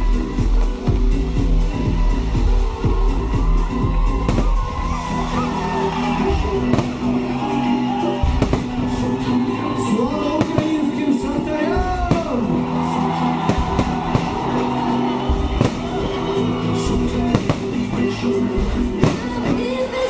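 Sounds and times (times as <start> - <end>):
fireworks banging and crackling: 0.0 - 20.0
pop music with singing: 0.0 - 20.0.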